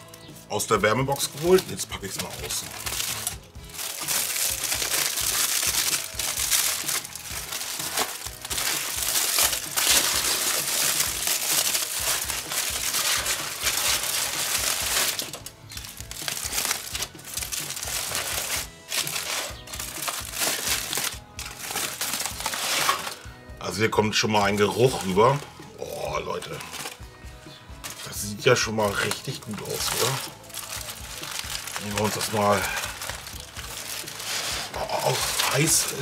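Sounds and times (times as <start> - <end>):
aluminium foil crinkling: 0.0 - 23.3, 24.4 - 36.0.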